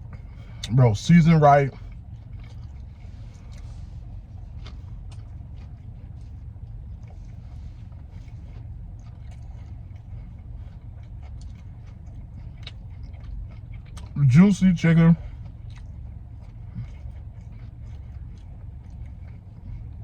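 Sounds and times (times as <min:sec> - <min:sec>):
soft chewing: 0:00.0 - 0:20.0
steady low rumble: 0:00.0 - 0:20.0.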